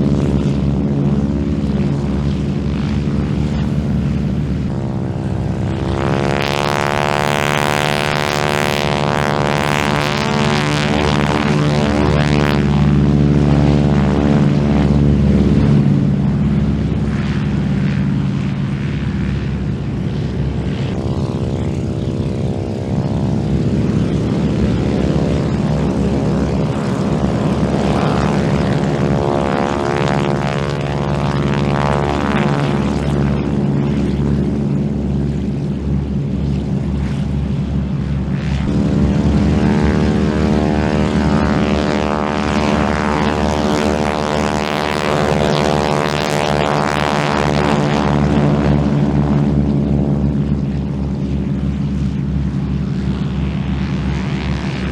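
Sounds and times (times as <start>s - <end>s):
propeller planes passing: 0.0s - 54.9s.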